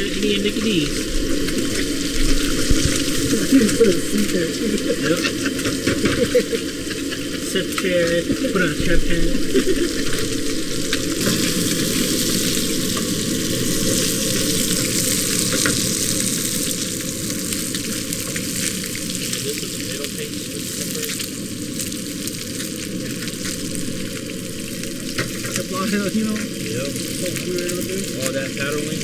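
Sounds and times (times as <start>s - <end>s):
fish sizzling in a pan: 0.0s - 29.0s.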